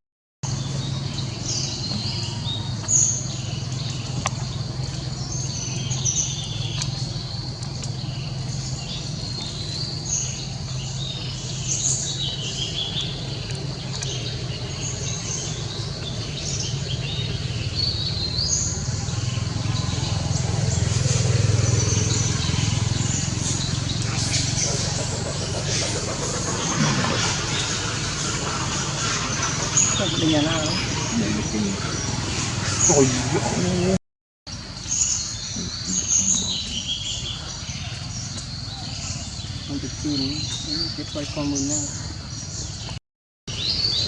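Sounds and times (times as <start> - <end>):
birds chirping: 0.4 - 44.0
steady low hum: 0.4 - 44.0.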